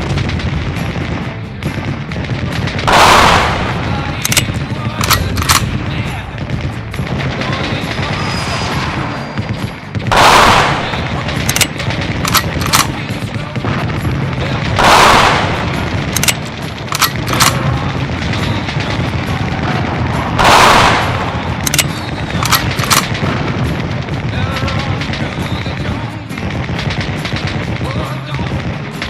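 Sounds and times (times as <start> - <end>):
single gunshots: 0.0 - 25.8
loud long gun blasts: 0.0 - 29.0.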